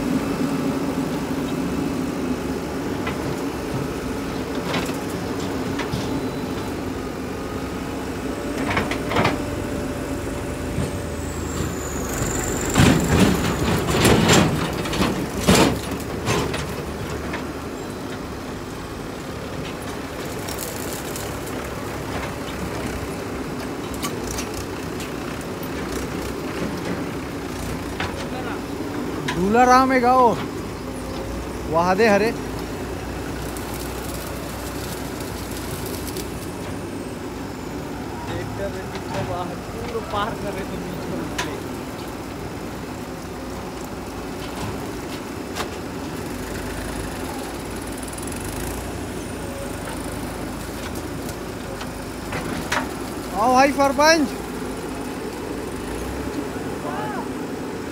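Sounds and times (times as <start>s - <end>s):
backhoe diesel engine: 0.0s - 57.9s
tractor engines idling: 0.0s - 57.9s.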